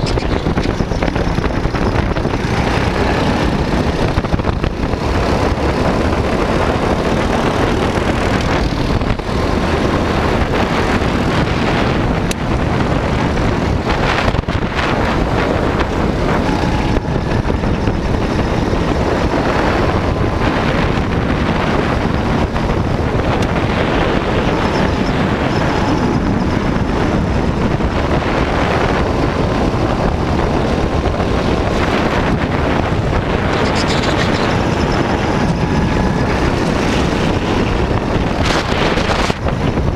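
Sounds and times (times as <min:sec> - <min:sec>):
go-kart engine running: 0:00.0 - 0:39.9
wind noise on microphone: 0:00.0 - 0:39.9.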